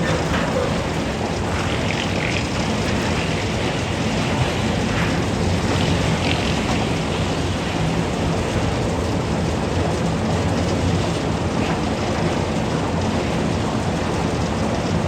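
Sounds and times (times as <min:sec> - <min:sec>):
concrete mixer rumbling: 0:00.0 - 0:15.0.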